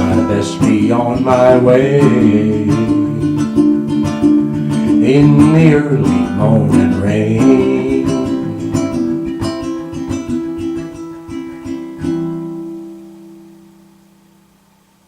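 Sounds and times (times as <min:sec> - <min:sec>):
ukulele playing: 0:00.0 - 0:14.6.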